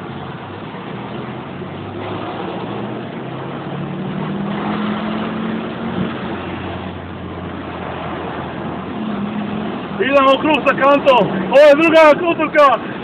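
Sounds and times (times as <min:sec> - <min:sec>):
road noise rushing: 0:00.0 - 0:13.0.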